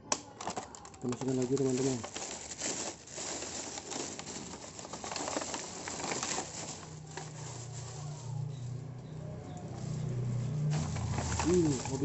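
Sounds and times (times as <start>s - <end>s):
plastic bag crinkling: 0.1s - 8.9s, 9.5s - 12.0s.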